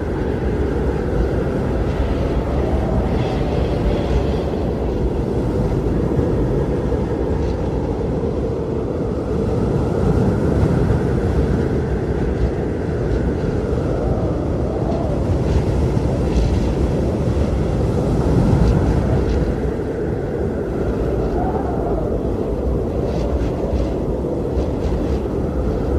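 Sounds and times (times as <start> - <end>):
blizzard wind with deep rumble: 0.0 - 25.9
howling wind tone: 0.0 - 25.9.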